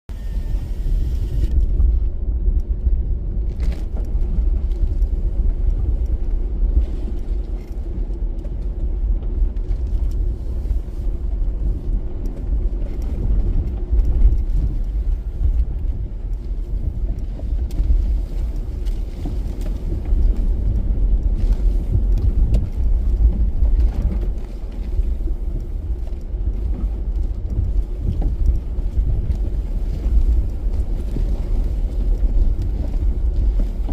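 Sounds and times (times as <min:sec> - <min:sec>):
vehicle engine rumble: 0:00.0 - 0:33.9.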